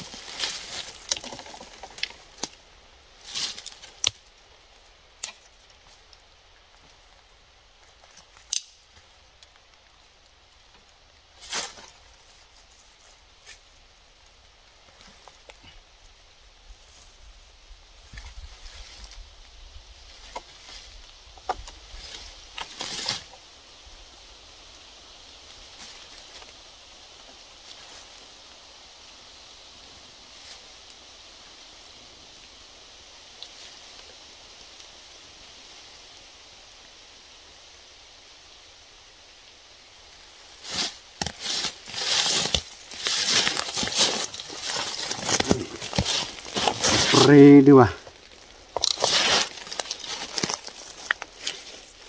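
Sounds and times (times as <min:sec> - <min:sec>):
dry leaves and brush rustling: 0:00.0 - 0:52.0
faint steady hiss: 0:00.0 - 0:52.0.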